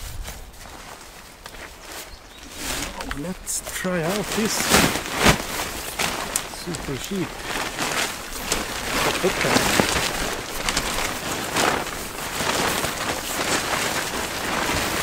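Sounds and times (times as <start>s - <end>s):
sharp fabric crackles: 0.0s - 15.0s
tent fabric rustling: 0.0s - 15.0s.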